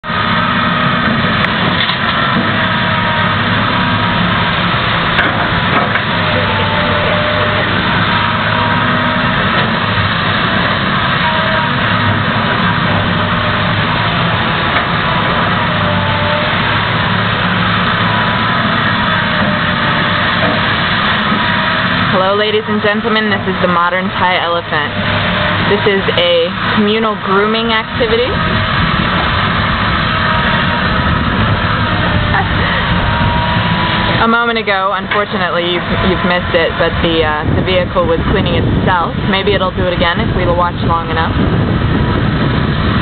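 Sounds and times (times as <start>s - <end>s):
diesel engines droning: 0.0s - 43.0s.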